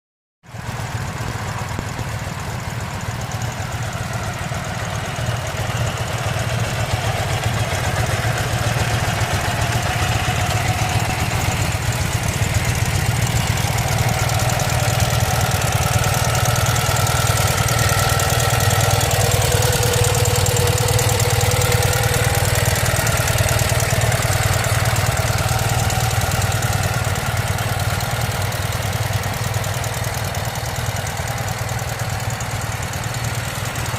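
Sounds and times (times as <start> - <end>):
motorcycle engine idling: 0.5 - 33.9.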